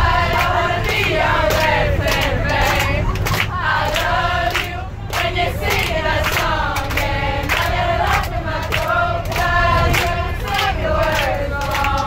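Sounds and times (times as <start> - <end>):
steady low bass: 0.0 - 12.0.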